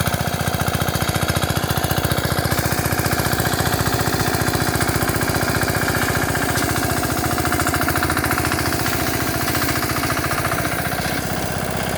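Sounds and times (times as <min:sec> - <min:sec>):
tiller engine chugging: 0:00.0 - 0:11.9.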